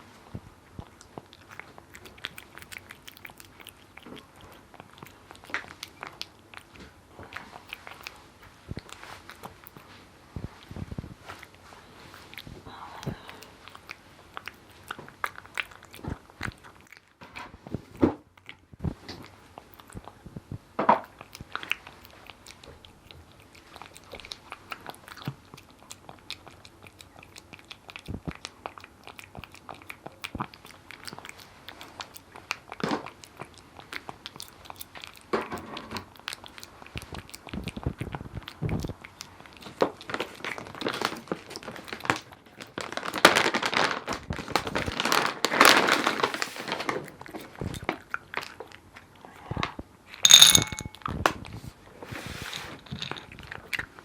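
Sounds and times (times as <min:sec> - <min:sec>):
cat crunching dry kibble: 0:00.7 - 0:20.2, 0:20.9 - 0:49.4, 0:50.2 - 0:51.1, 0:52.3 - 0:54.0.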